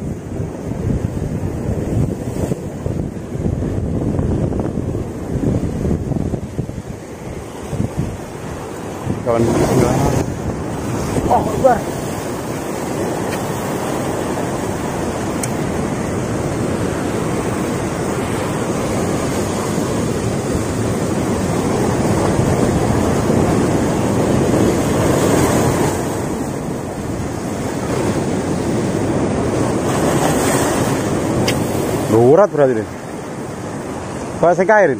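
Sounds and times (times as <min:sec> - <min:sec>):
surf breaking on rocks: 0:00.0 - 0:34.9.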